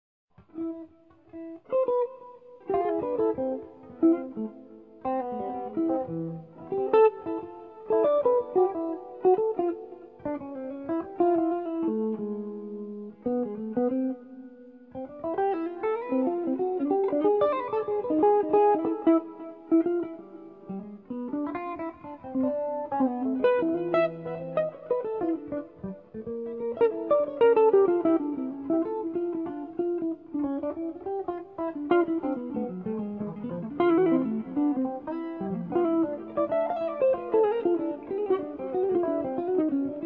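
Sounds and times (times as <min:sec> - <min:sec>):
jazz guitars playing a duet: 0:00.4 - 0:40.0.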